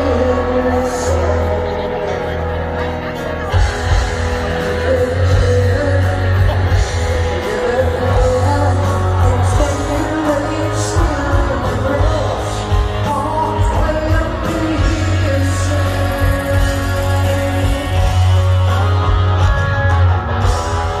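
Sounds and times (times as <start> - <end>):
distant live rock band: 0.0 - 21.0.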